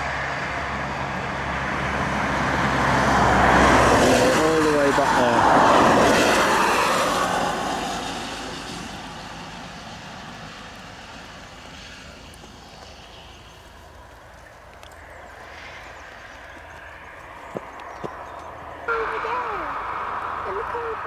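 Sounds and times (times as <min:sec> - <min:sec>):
vehicle passing close by: 0:00.0 - 0:12.3, 0:15.5 - 0:21.0
faint traffic hum: 0:00.0 - 0:21.0.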